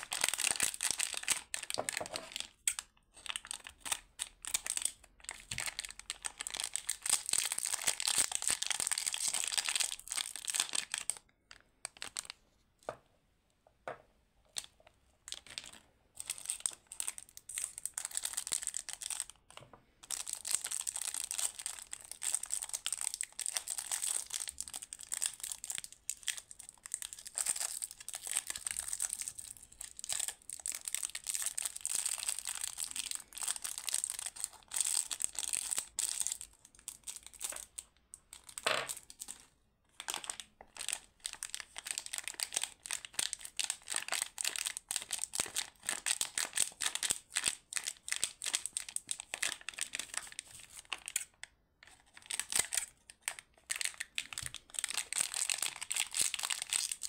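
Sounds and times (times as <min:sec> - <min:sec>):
plastic wrappers crinkling: 0:00.0 - 0:12.4, 0:15.3 - 0:57.0.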